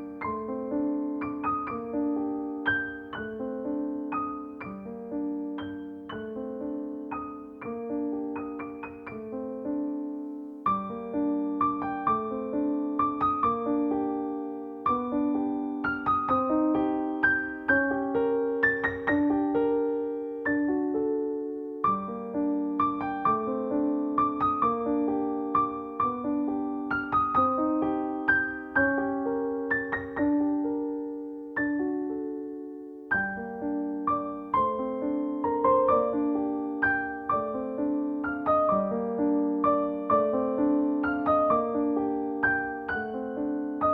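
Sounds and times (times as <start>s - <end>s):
gentle piano melody: 0.0s - 43.9s.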